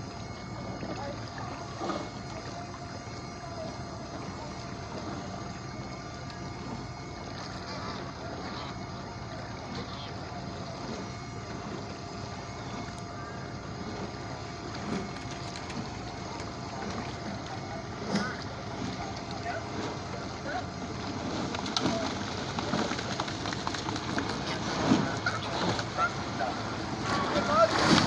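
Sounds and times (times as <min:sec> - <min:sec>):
faint distant voices: 0:00.0 - 0:28.0
motorboat engine whining: 0:00.0 - 0:28.0.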